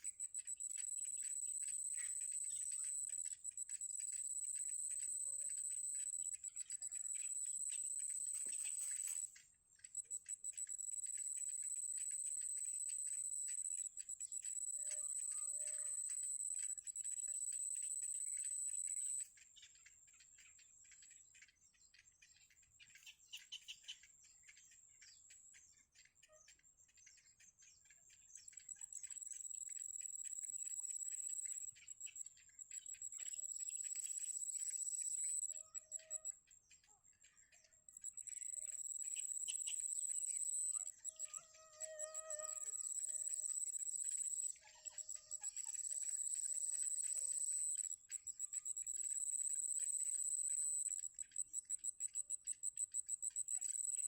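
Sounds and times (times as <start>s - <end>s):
nestling birds cheeping: 0.0s - 19.7s, 28.4s - 36.9s, 37.8s - 54.0s.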